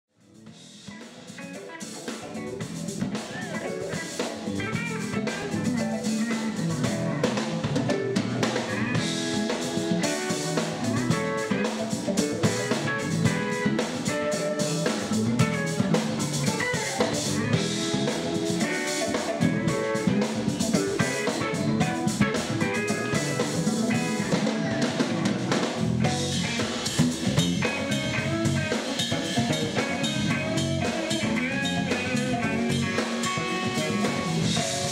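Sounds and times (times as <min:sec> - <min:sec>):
drum kit with rimshots: 0:00.2 - 0:34.9
electric guitars: 0:00.3 - 0:34.9
keyboard playing: 0:01.5 - 0:34.9.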